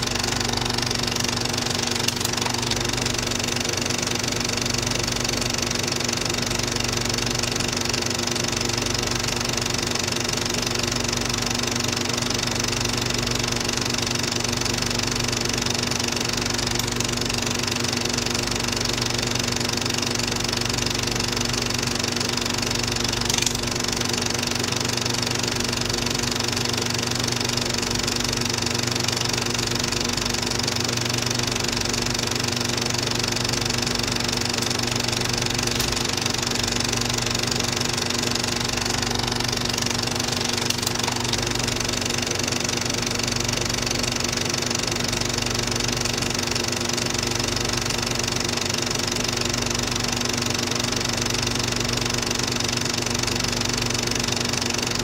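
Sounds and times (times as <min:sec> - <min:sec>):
film projector running: 0:00.0 - 0:55.0.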